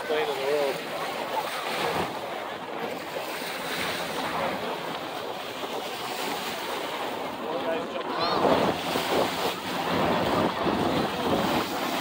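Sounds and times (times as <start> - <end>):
shallow surf washing: 0.0 - 12.0
wind buffeting microphone: 0.0 - 12.0.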